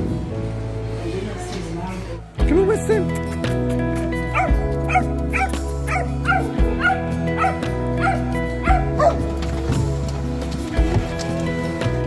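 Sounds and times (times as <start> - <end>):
background music with swooping notes: 0.0 - 12.0.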